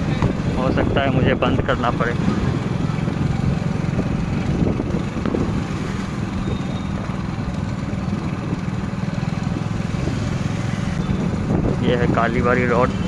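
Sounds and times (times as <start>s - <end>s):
motorcycle engine low drone: 0.0s - 13.0s.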